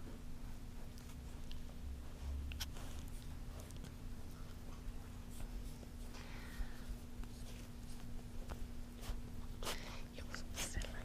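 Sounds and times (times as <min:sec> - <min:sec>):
puppies scratching and rustling: 0:00.0 - 0:11.0
steady low hum: 0:00.0 - 0:11.0.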